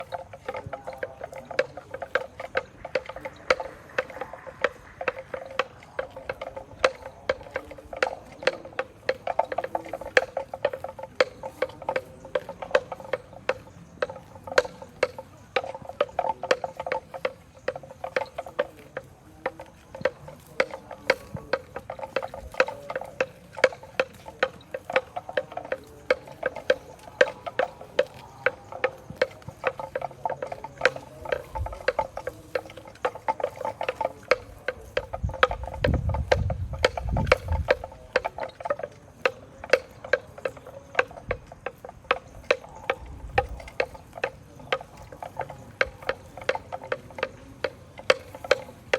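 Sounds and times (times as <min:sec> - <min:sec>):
cow tearing and chewing grass: 0:00.0 - 0:48.9.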